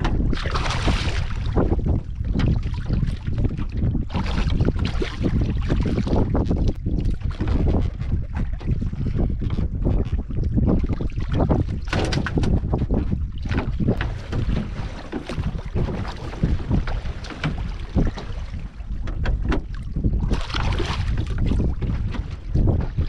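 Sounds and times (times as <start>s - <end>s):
knocks and splashes: 0.0s - 23.0s
water slapping boat hull: 0.0s - 23.0s
wind buffeting microphone: 0.0s - 23.0s.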